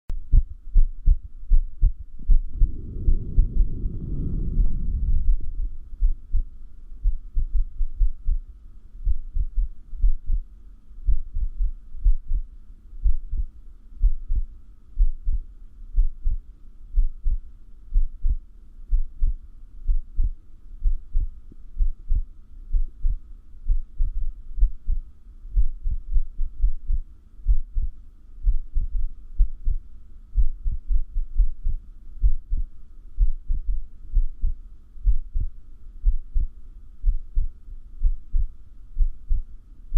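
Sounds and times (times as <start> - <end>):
faint steady hum: 0.1 - 39.9
heartbeat thumps: 0.2 - 39.5.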